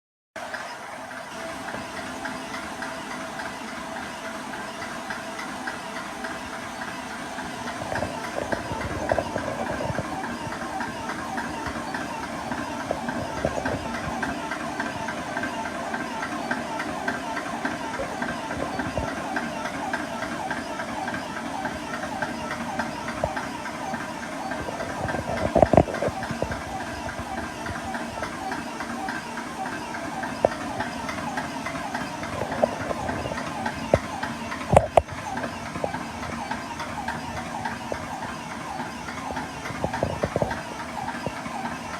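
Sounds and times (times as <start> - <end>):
air compressor pulsing: 0.4 - 41.9.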